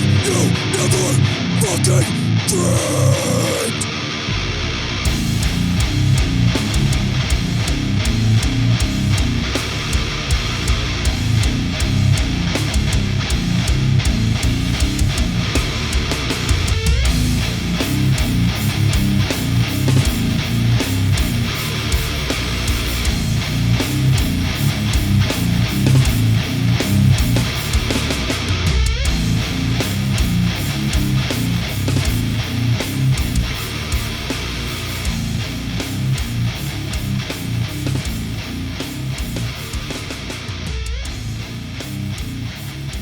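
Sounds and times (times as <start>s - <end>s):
distorted electric guitars: 0.0s - 43.0s
fast drum beat: 5.1s - 43.0s.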